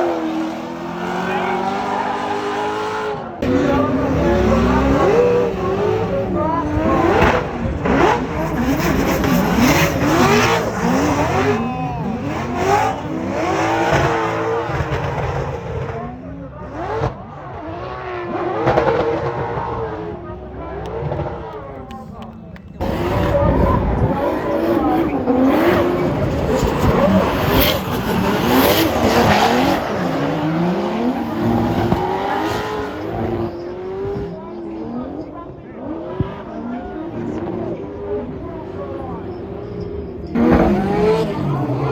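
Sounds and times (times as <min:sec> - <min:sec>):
car engines revving hard: 0:00.0 - 0:41.9.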